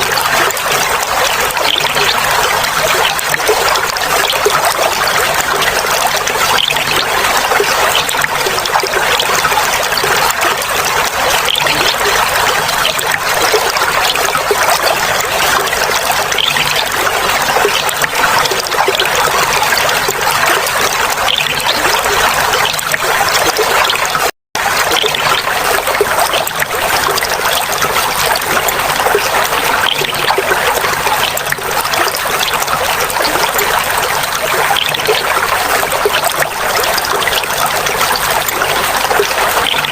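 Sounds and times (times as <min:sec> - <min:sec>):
water flowing and babbling: 0:00.0 - 0:39.9.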